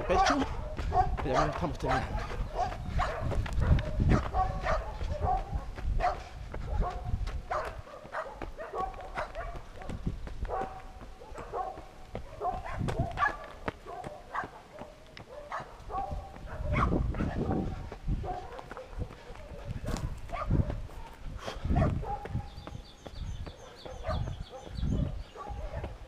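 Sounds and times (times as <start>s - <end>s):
dog barking: 0.0s - 22.7s, 23.4s - 26.0s.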